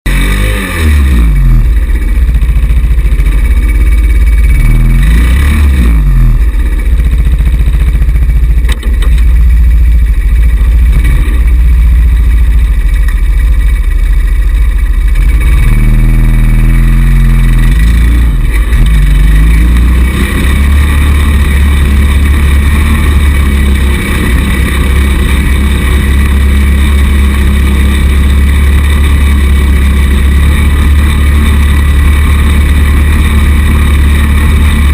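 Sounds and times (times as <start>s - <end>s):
small buggy engine revving: 0.1s - 9.2s, 10.9s - 11.6s, 15.1s - 34.9s
heavy low rumble: 0.1s - 34.9s.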